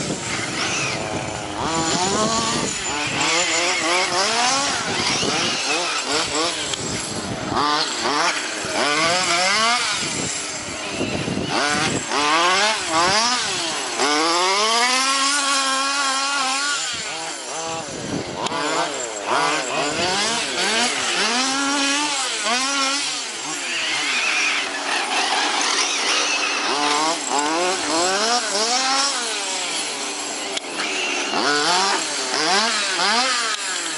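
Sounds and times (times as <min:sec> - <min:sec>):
two-stroke engine revving: 0:00.0 - 0:33.9.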